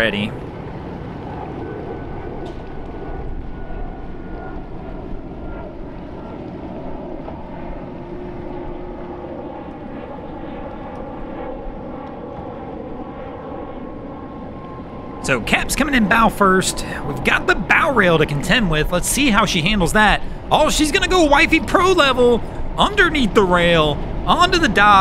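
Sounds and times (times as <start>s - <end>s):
steady engine drone: 0.0s - 25.0s.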